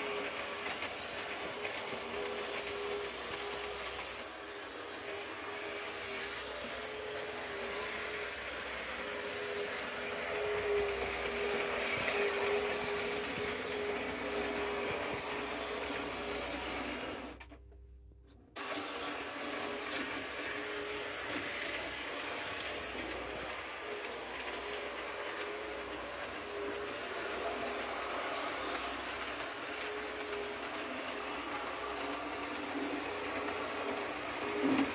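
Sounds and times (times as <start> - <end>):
model train motor whirring: 0.0 - 17.4, 18.6 - 34.9
wheels rolling over rails: 0.0 - 17.5, 18.6 - 34.9.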